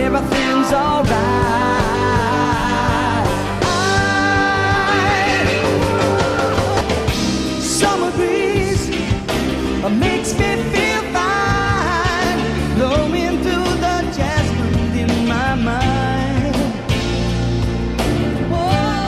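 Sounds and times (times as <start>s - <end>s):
man singing: 0.0s - 17.1s, 18.3s - 19.0s
acoustic guitar: 0.0s - 19.0s
bass: 0.0s - 19.0s
drums: 0.0s - 19.0s.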